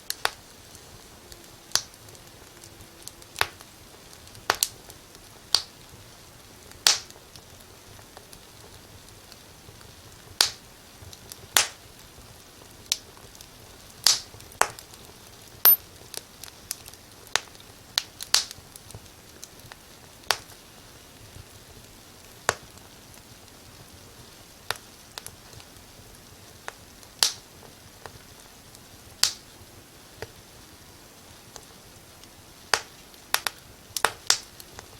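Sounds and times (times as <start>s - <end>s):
faint steady hiss: 0.0s - 34.9s
wood fire crackling: 0.0s - 34.9s.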